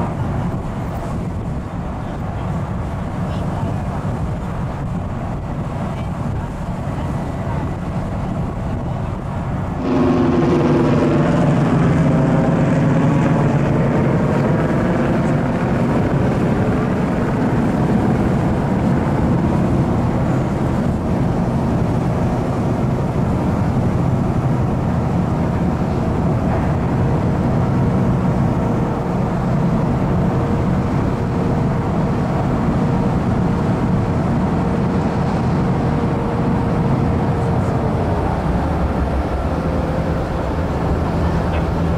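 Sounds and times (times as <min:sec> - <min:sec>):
diesel engines droning: 0:00.0 - 0:41.9.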